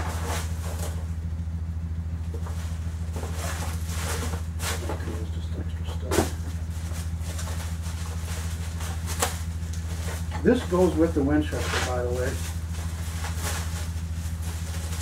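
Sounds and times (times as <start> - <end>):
paper mailer and bubble wrap rustling: 0.0 - 1.1, 2.3 - 15.0
steady low hum: 0.0 - 15.0.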